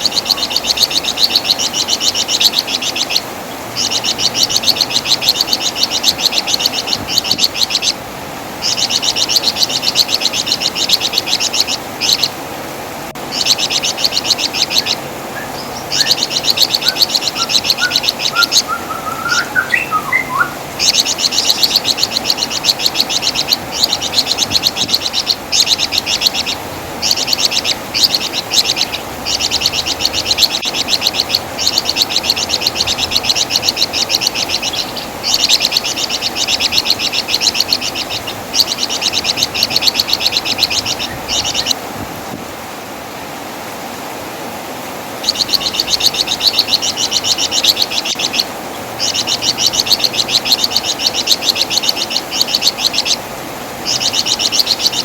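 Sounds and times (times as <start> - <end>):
songbird chattering rattling notes: 0.0 - 8.0, 8.6 - 12.4, 13.3 - 41.8, 45.2 - 53.2, 53.8 - 55.0.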